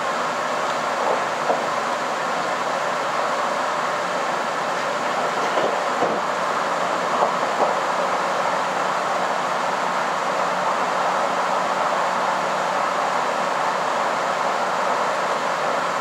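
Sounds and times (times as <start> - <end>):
train wheels and engine rumble: 0.0 - 16.0.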